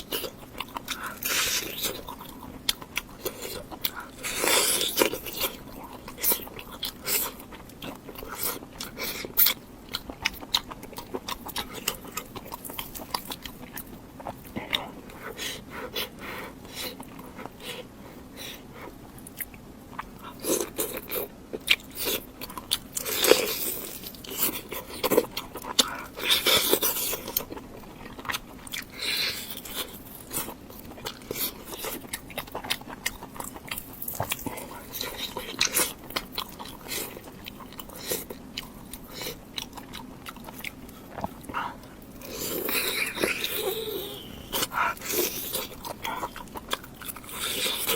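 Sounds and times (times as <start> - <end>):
person crunching and chewing food: 0.0 - 47.9.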